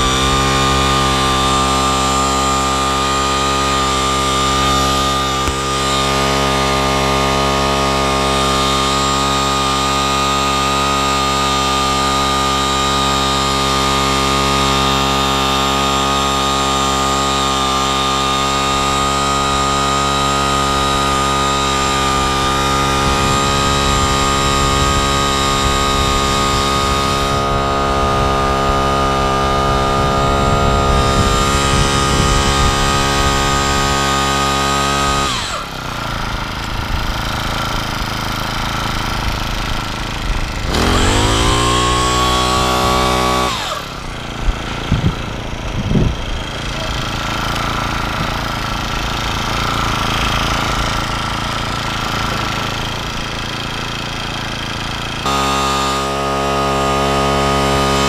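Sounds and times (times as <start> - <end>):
small petrol engine running: 0.0 - 58.0.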